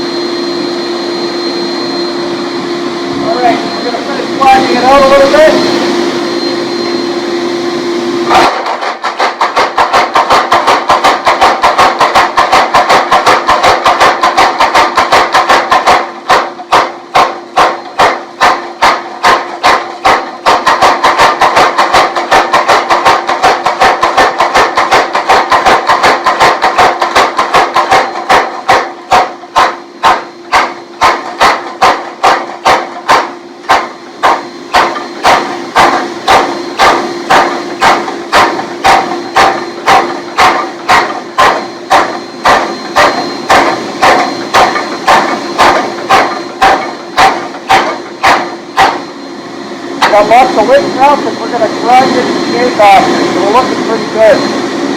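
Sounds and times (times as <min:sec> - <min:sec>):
machine motor hum: 0:00.0 - 0:54.9
power hammer striking hot steel: 0:03.4 - 0:54.9.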